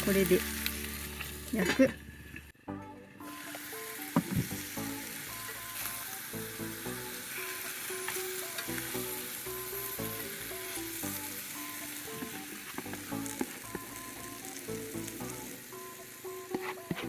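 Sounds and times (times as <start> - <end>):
meat sizzling in a pan: 0.0 - 1.6, 3.2 - 17.0
light background melody: 0.0 - 1.8, 2.6 - 17.0.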